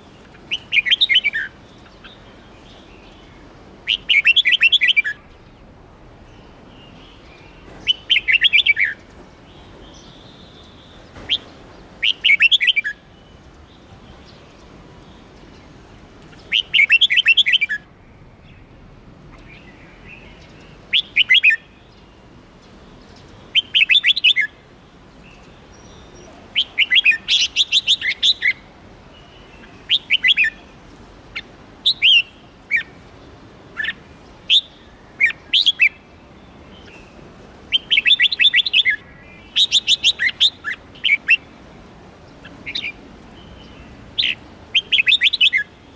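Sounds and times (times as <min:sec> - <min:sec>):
faint steady hiss: 0:00.0 - 0:45.9
songbird chirping: 0:00.0 - 0:45.9.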